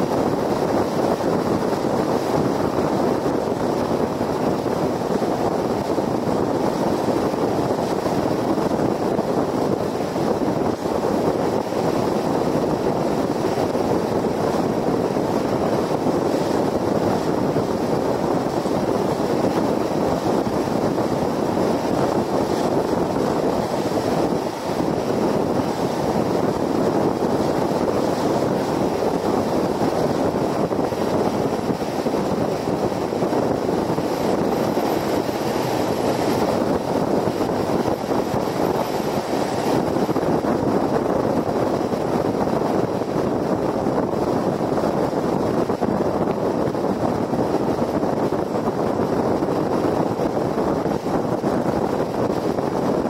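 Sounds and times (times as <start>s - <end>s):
car road and wind noise: 0.0s - 53.0s.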